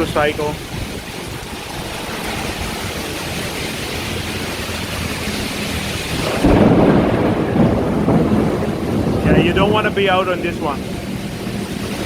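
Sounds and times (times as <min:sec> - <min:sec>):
heavy rain pouring: 0:00.0 - 0:12.0
low rumble: 0:00.6 - 0:12.0.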